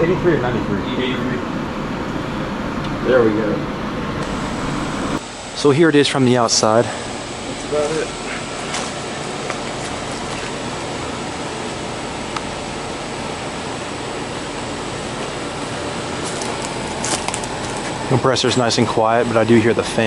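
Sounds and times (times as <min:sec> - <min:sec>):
air conditioner fan rushing: 0:00.0 - 0:20.0.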